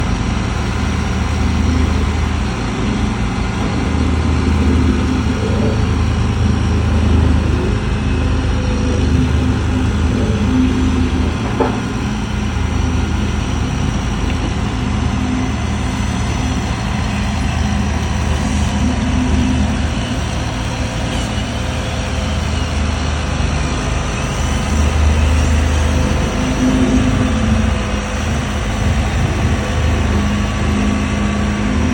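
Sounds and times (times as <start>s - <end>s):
diesel engine humming: 0.0s - 31.9s.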